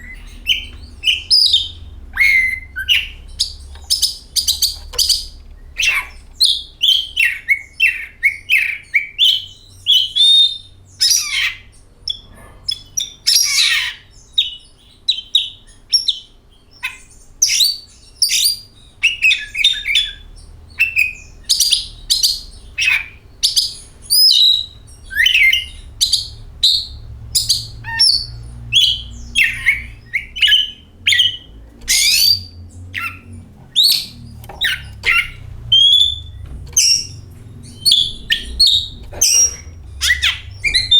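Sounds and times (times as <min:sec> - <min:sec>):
bird singing varied whistles: 0:00.0 - 0:11.2, 0:17.4 - 0:40.9.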